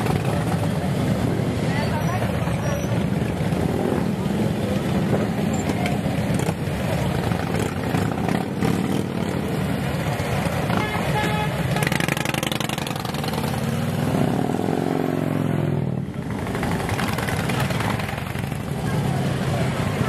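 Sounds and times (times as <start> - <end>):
motorcycles riding past: 0.0 - 20.0
motorcycle engine revving: 2.9 - 11.1, 11.7 - 20.0.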